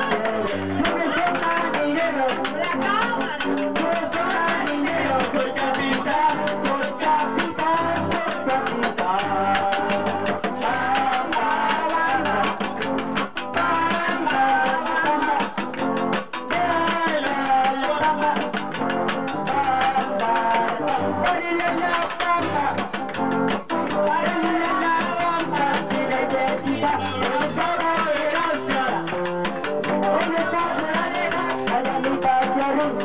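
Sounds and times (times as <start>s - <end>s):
latin dance music with guitar: 0.0s - 33.0s.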